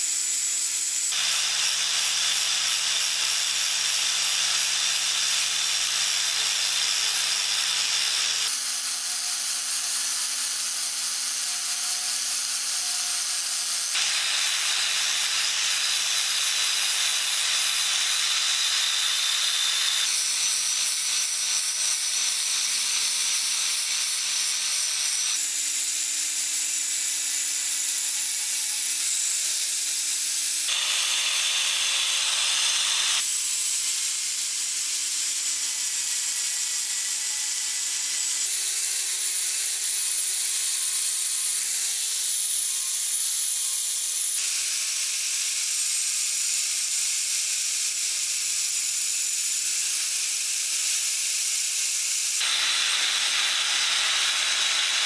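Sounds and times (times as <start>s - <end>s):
angle grinder grinding steel: 0.0s - 55.0s.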